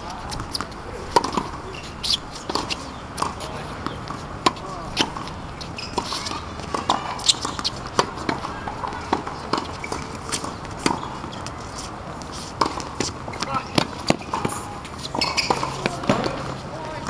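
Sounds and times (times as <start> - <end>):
players' footsteps: 0.0 - 17.0
racquet striking tennis ball: 0.0 - 17.0
tennis ball bouncing: 0.0 - 17.0.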